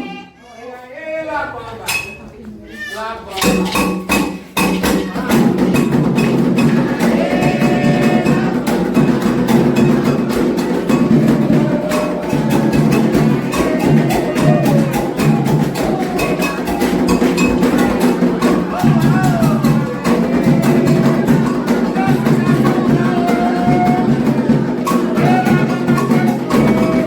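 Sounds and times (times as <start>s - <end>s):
voices singing: 0.0s - 27.0s
agogo bell strikes: 3.4s - 27.0s
hand drums playing fast rhythm: 3.4s - 27.0s.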